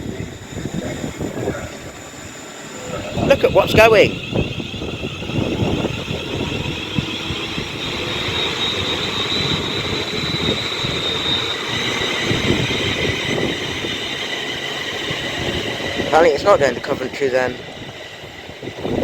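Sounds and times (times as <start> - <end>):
electric train whine: 0.0 - 19.0
wheels clattering on rails: 0.0 - 19.0.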